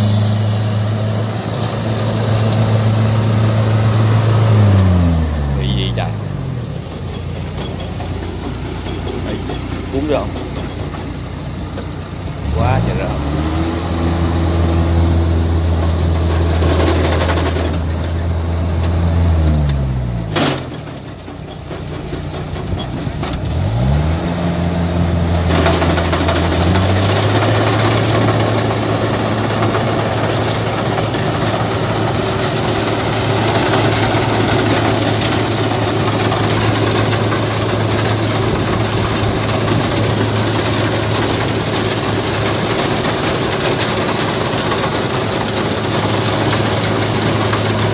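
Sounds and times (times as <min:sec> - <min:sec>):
diesel engine revving: 0:00.0 - 0:47.9
rushing mechanical noise: 0:00.0 - 0:47.9.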